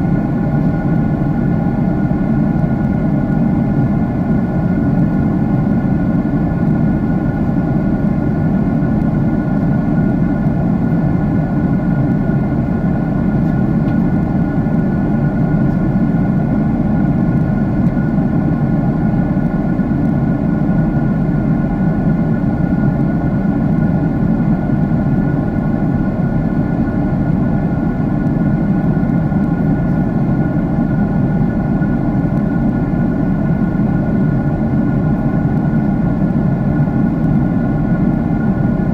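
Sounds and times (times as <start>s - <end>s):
faint steady hums: 0.0s - 38.9s
jet engine cabin rumble: 0.0s - 38.9s.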